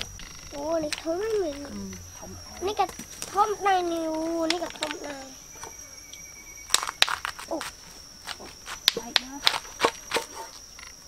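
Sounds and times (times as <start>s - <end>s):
high thin whine: 0.0s - 11.0s.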